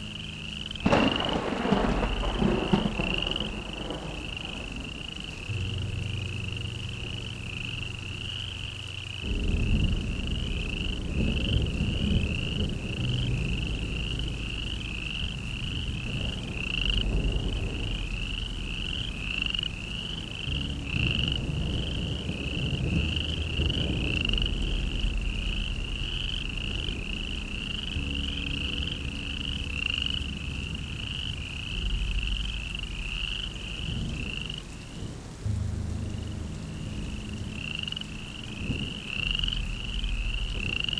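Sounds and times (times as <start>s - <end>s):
low drone: 0.0s - 40.9s.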